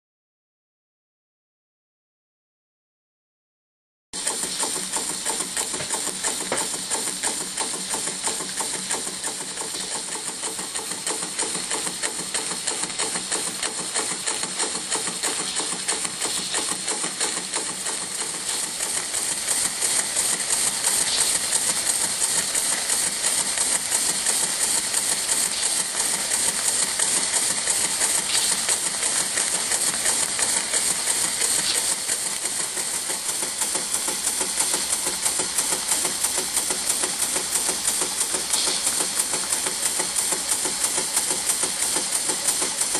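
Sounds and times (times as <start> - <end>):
model steam engine beating: 4.2 - 42.9
steam hissing: 4.2 - 42.9.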